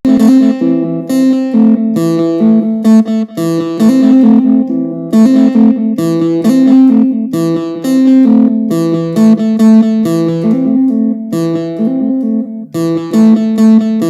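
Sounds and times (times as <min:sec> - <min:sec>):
plucked guitar-like melody: 0:00.0 - 0:14.0.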